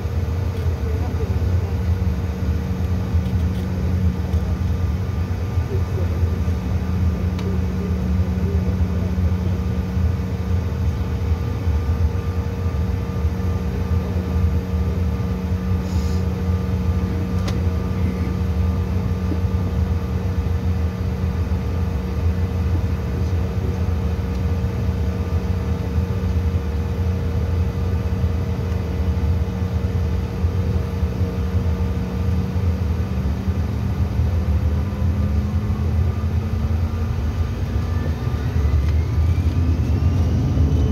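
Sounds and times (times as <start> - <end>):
jet engines rumble and whine: 0.0 - 40.9.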